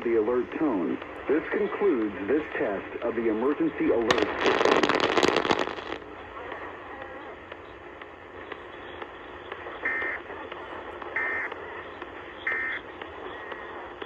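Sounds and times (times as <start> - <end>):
radio hiss and static: 0.0 - 14.0.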